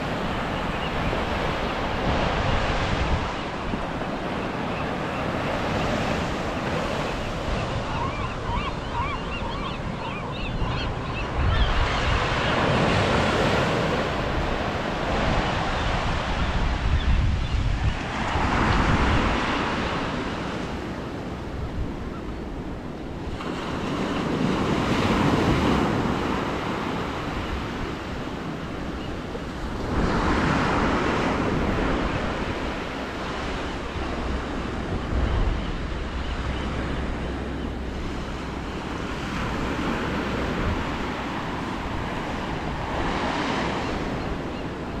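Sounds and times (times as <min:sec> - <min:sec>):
ocean waves washing onto shore: 0:00.0 - 0:45.0.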